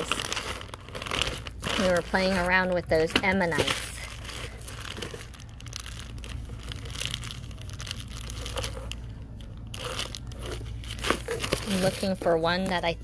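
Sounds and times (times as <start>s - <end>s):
plastic bags of beads crinkling: 0.0s - 13.0s.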